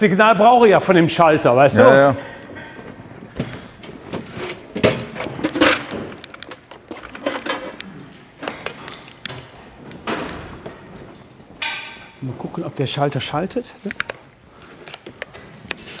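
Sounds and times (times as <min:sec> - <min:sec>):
rustling: 0:01.2 - 0:16.0.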